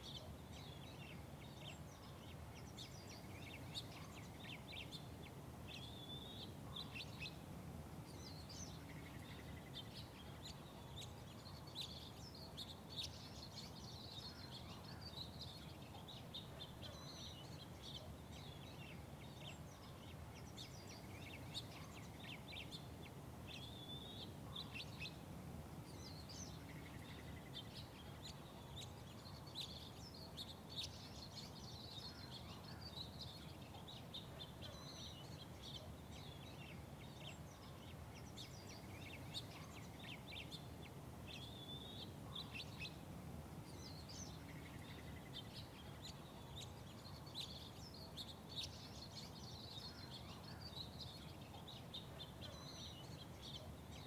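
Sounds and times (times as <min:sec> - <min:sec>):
low city background rumble: 0:00.0 - 0:54.0
small birds chirping: 0:00.0 - 0:54.0.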